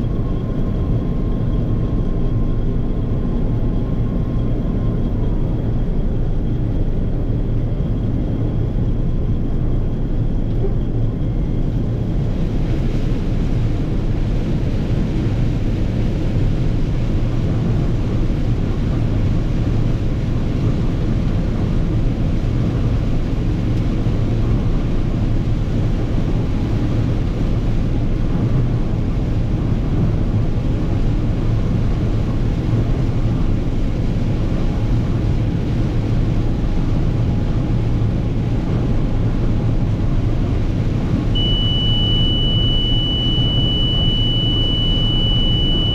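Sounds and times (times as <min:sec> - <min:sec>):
combine engine and threshing drone: 0:00.0 - 0:45.9.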